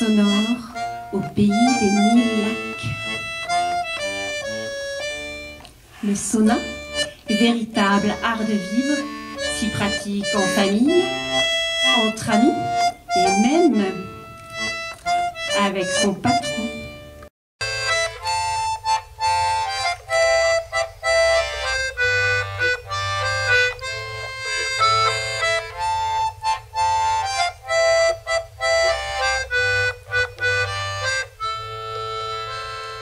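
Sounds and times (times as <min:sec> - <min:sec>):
accordion playing a tune: 0:00.0 - 0:33.0.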